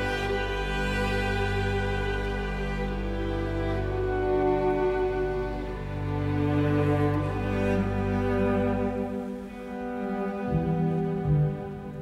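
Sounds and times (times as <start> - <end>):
slow bowed string music: 0.0 - 12.0.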